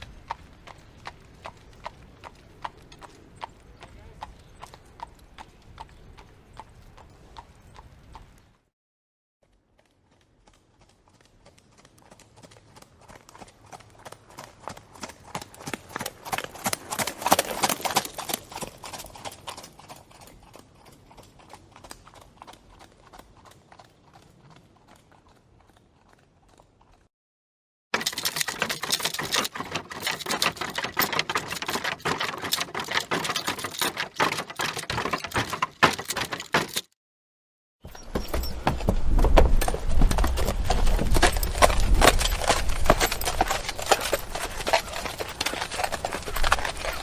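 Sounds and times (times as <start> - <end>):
horse galloping hoofbeats: 0.0 - 8.4, 9.4 - 27.1, 28.0 - 36.9, 37.9 - 47.0.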